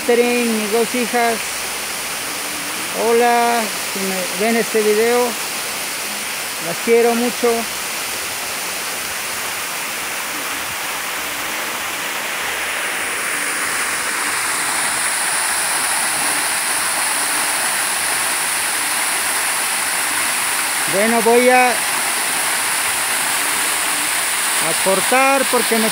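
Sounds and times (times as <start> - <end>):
waterfall splashing on stone: 0.0 - 25.9.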